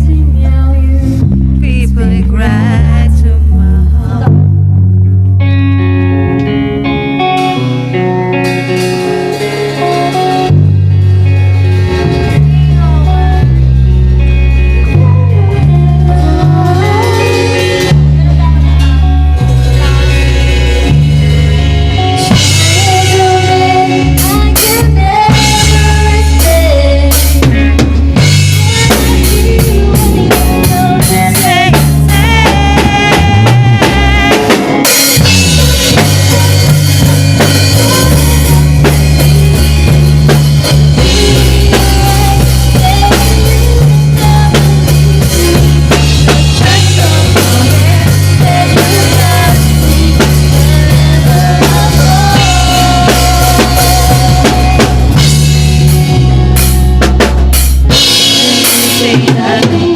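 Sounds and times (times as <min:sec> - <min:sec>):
drum kit beat: 0:00.0 - 0:59.9
electric bass: 0:00.0 - 0:59.9
rhythm guitar: 0:00.0 - 0:59.9.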